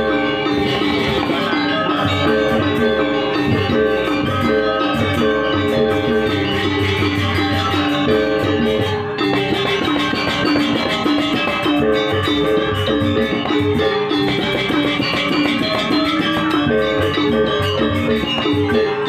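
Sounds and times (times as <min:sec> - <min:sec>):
drums: 0:00.0 - 0:19.0
metallophones playing melody: 0:00.0 - 0:19.0.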